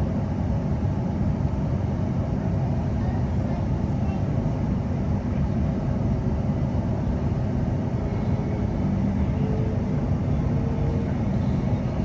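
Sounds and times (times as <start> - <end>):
electric train low rumble: 0.0 - 12.0.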